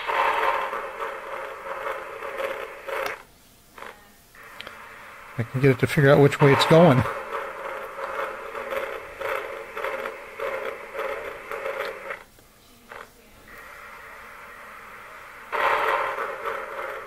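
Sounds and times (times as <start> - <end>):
toy train running on track: 0.0 - 3.2, 3.8 - 12.2, 12.9 - 17.0
faint steady hum: 0.0 - 17.0.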